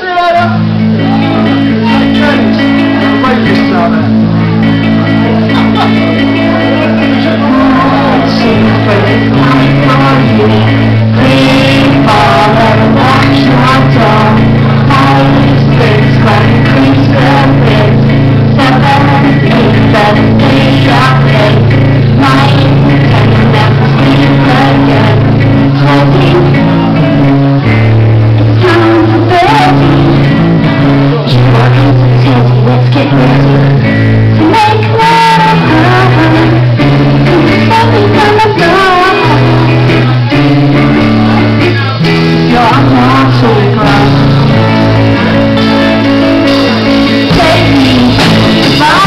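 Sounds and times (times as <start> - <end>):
bass guitar: 0.0 - 49.0
drums: 0.0 - 49.0
electric guitars: 0.0 - 49.0
live rock band playing: 0.0 - 49.0
woman singing lead vocal: 0.0 - 49.0.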